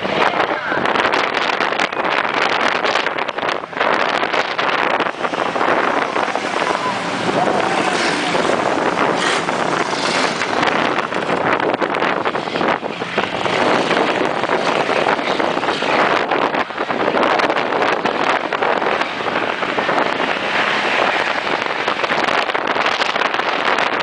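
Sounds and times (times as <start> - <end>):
race car engines: 0.0 - 24.0
wind noise on microphone: 0.0 - 24.0.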